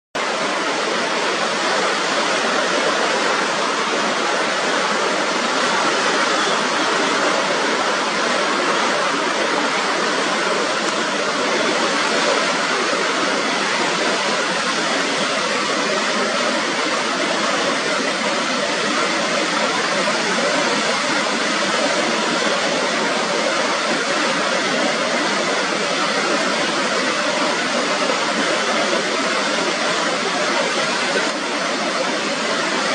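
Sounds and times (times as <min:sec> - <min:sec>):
river rushing over rapids: 0:00.2 - 0:32.9.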